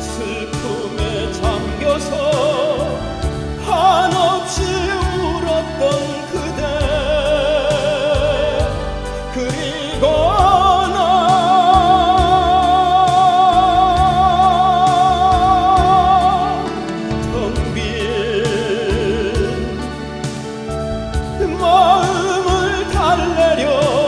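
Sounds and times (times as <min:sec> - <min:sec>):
man singing operatically: 0:00.0 - 0:20.7, 0:21.3 - 0:24.0
instrumental accompaniment: 0:00.0 - 0:24.0.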